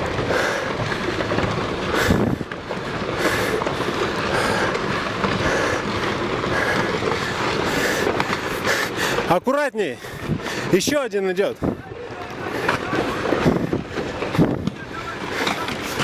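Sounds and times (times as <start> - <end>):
rocks tumbling and clattering: 0.0 - 16.0.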